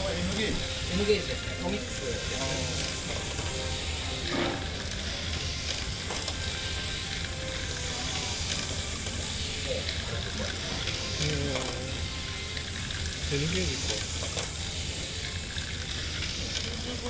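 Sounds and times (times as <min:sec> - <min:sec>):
model trains hissing: 0:00.0 - 0:17.0.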